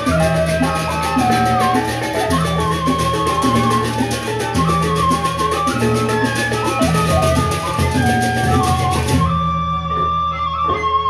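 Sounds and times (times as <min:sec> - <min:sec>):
large barrel drums beating: 0:00.0 - 0:09.5
held melodic line: 0:00.0 - 0:11.0.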